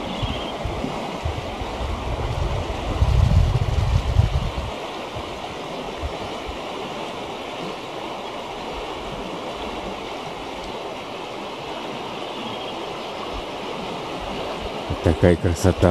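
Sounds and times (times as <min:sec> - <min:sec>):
wind rumble on microphone: 0:00.0 - 0:07.8, 0:08.6 - 0:15.9
river rushing over riffles: 0:00.0 - 0:15.9.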